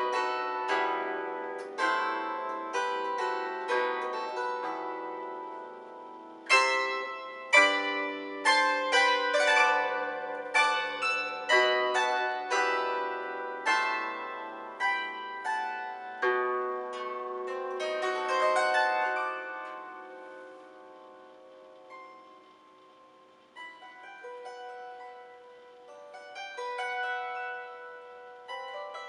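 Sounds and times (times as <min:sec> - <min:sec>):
plucked string instrument melody: 0:00.0 - 0:29.0.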